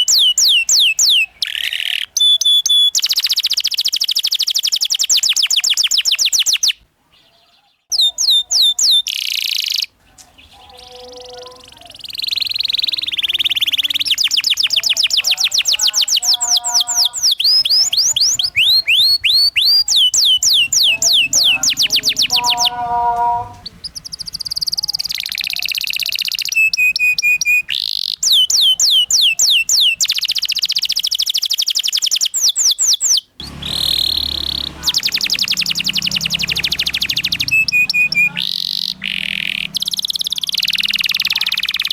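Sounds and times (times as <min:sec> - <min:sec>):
canary singing: 0:00.0 - 0:41.9.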